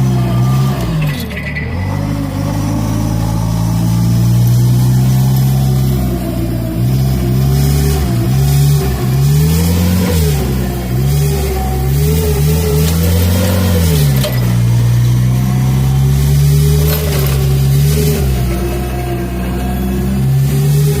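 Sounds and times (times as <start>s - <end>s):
forklift engine revving: 0.0s - 21.0s.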